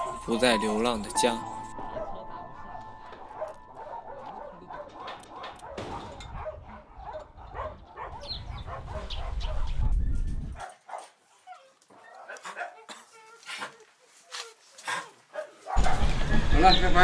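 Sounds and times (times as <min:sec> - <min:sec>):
dogs barking and whimpering: 0:00.0 - 0:00.4, 0:01.9 - 0:16.5.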